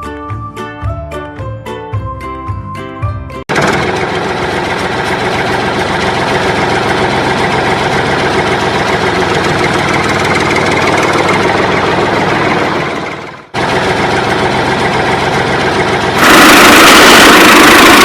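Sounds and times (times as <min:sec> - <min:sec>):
engine idling with chugging: 0:03.5 - 0:18.0.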